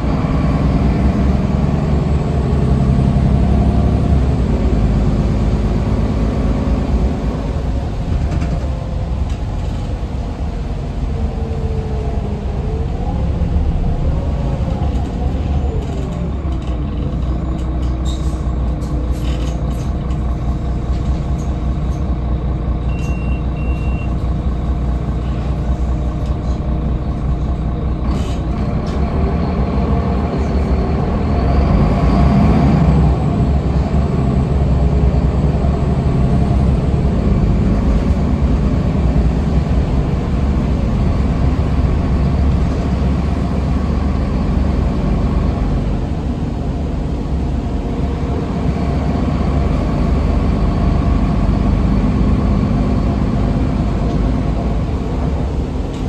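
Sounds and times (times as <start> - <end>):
bus engine droning: 0.0 - 56.0.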